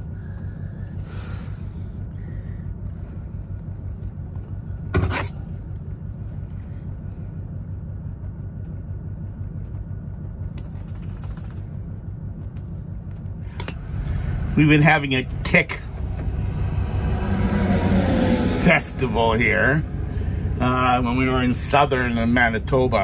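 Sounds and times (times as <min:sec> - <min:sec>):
low engine rumble: 0:00.0 - 0:23.0.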